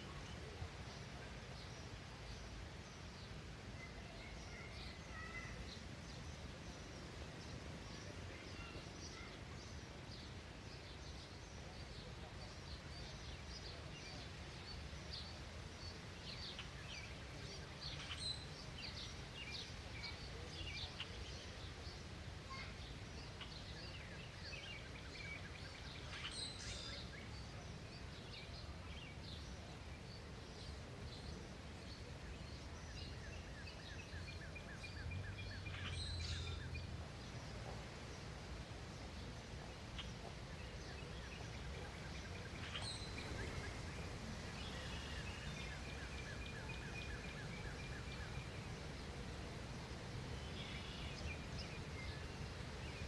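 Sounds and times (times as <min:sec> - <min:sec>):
wild birds chirping: 0:00.0 - 0:53.0.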